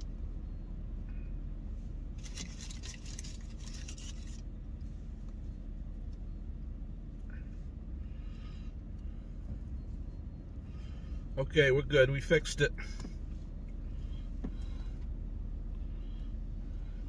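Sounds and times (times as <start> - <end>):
low rumble in truck cab: 0.0 - 17.0.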